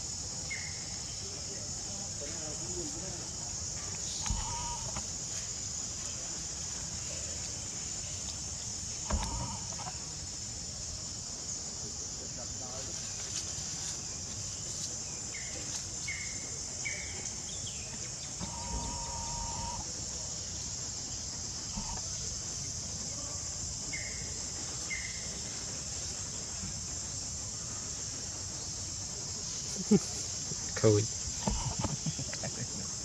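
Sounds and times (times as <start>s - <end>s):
insect chirping calls: 0.0s - 33.0s
insects droning: 0.0s - 33.0s.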